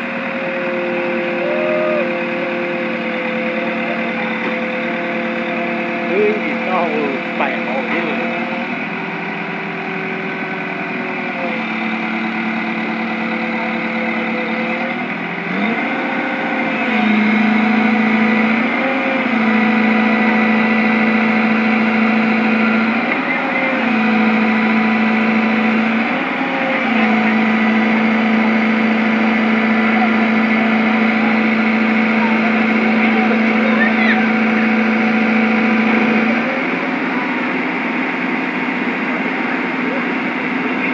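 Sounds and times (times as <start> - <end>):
excavator diesel engine revving: 0.0 - 40.9.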